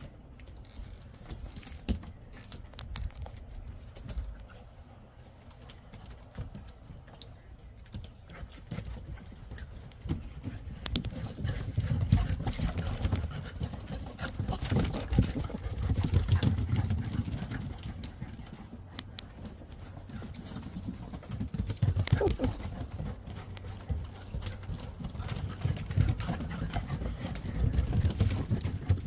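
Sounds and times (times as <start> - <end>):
puppy paws clicking on wooden deck: 0.0 - 29.0.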